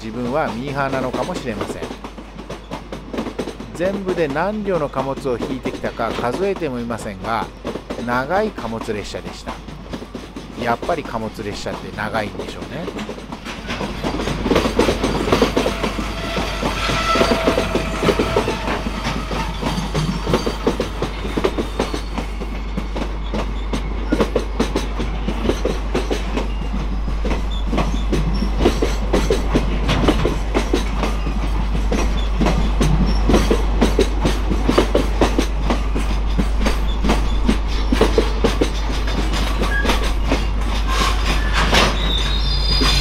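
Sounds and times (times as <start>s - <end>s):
freight train rolling past: 0.0s - 43.0s
wheels clacking over rail joints: 0.0s - 43.0s.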